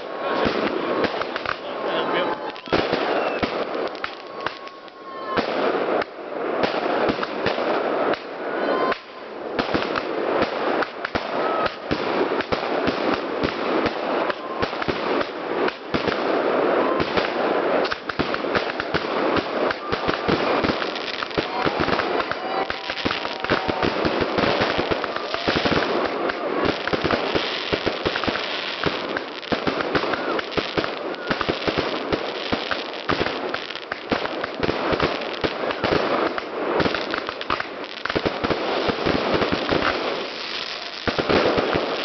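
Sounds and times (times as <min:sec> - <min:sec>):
firework whistles: 0:00.0 - 0:42.0
fireworks bangs and crackling: 0:00.0 - 0:42.0.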